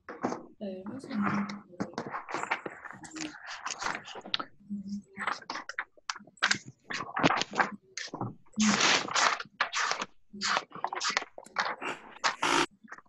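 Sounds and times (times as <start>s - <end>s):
scratchy rustling and scraping: 0.1s - 13.0s.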